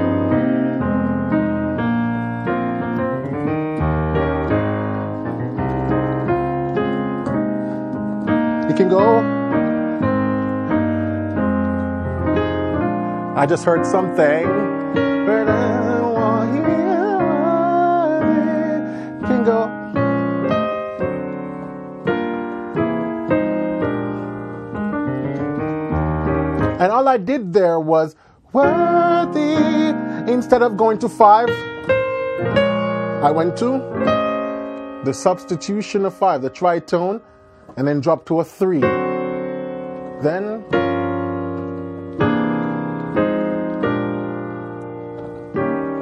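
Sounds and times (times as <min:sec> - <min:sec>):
piano playing slow gospel chords: 0:00.0 - 0:46.0.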